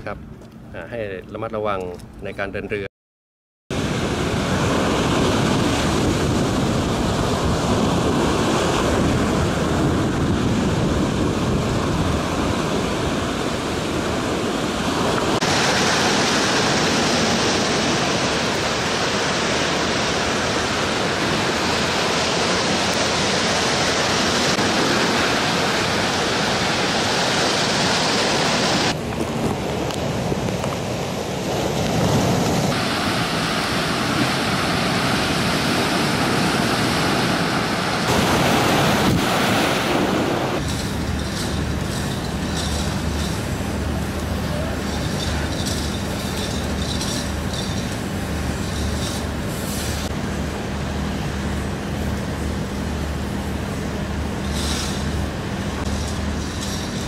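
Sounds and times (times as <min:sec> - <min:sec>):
wind blowing across microphone: 0:03.7 - 0:50.2
waves surging and breaking: 0:03.7 - 0:57.0.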